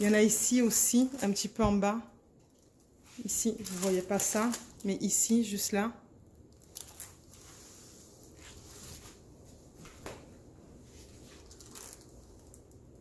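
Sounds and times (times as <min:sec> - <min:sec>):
rustling of plastic film and canvas: 0:00.0 - 0:05.7, 0:06.4 - 0:13.0.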